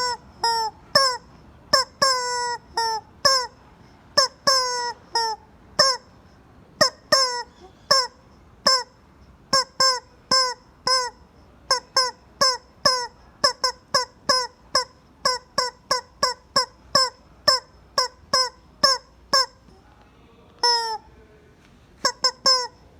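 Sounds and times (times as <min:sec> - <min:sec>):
rubber chicken squawking: 0:00.0 - 0:03.6, 0:04.2 - 0:06.2, 0:06.8 - 0:19.7, 0:20.6 - 0:21.1, 0:22.0 - 0:22.9.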